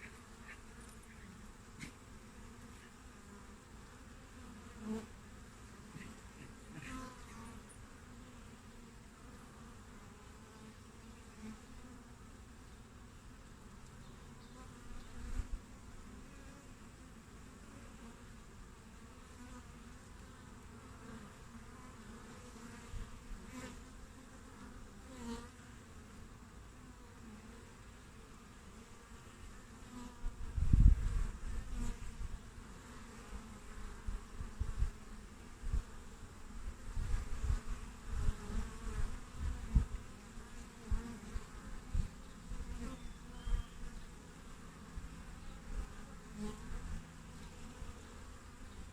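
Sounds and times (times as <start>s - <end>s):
honeybees buzzing: 0.0s - 48.9s.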